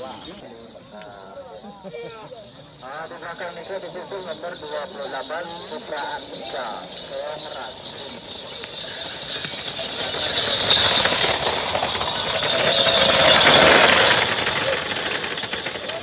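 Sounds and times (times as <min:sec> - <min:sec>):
cart rattling: 0:02.0 - 0:16.0
hoofbeats: 0:02.8 - 0:16.0.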